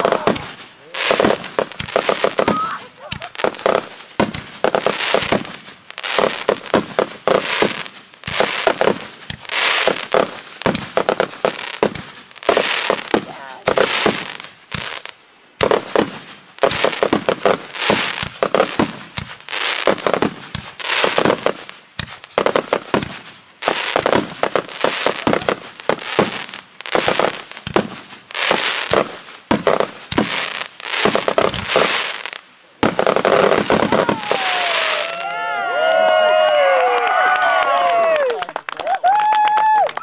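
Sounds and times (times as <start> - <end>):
fireworks banging and crackling: 0.0 - 40.0.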